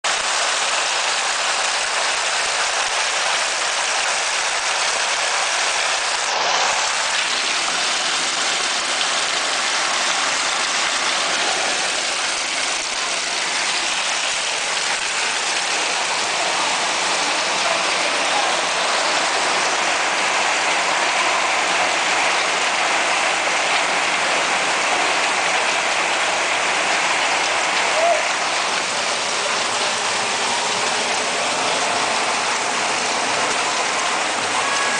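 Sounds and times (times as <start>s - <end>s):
hail and heavy rain pelting: 0.1s - 34.9s.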